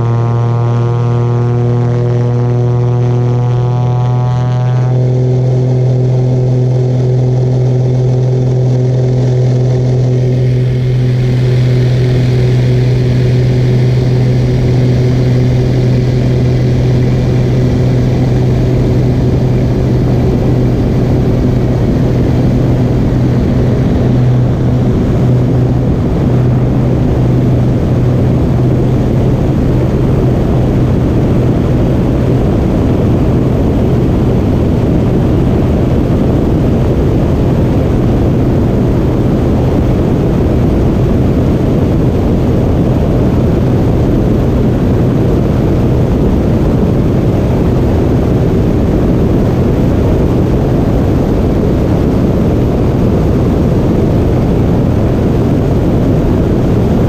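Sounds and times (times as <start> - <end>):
aircraft engines droning: 0.0 - 57.0
rushing wind: 0.0 - 57.0.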